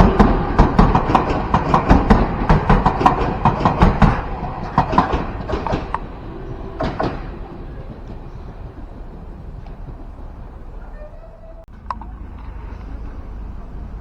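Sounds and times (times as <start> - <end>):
train wheels clacking over rail joints: 0.0 - 14.0.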